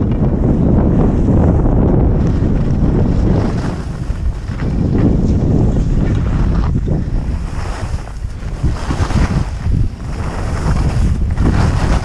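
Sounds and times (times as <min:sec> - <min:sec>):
skis scraping over packed snow: 0:00.0 - 0:12.0
wind rushing over microphone: 0:00.0 - 0:12.0.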